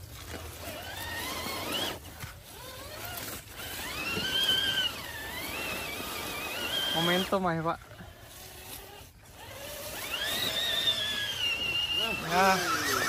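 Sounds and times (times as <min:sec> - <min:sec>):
electric motor whining: 0:00.4 - 0:13.0.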